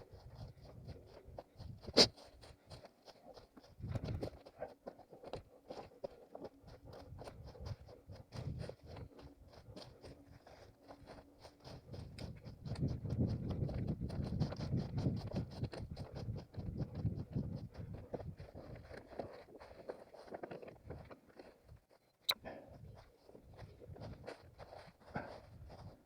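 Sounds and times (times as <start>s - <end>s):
running footsteps on forest ground: 0.0s - 26.0s.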